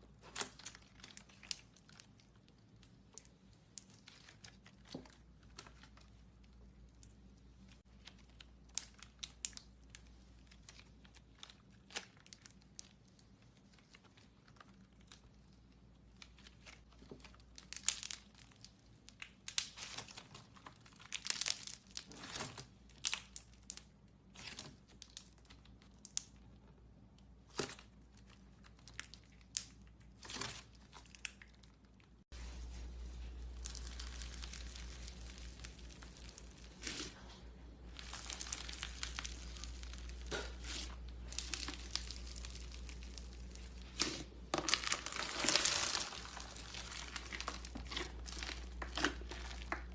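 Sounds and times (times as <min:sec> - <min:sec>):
slime squeezed crackling: 0:00.1 - 0:26.5, 0:27.4 - 0:49.9.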